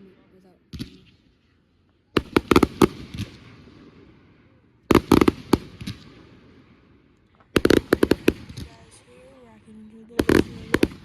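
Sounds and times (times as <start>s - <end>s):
fireworks bangs: 2.1s - 11.0s.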